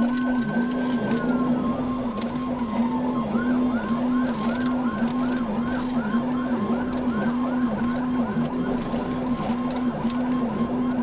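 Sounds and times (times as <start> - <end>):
engine and road noise: 0.0 - 11.0
police siren yelping: 0.0 - 11.0.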